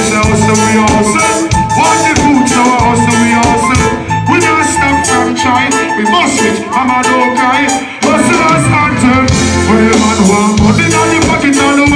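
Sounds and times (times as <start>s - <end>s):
live reggae band playing: 0.0s - 11.9s
steady drum beat: 0.0s - 11.9s.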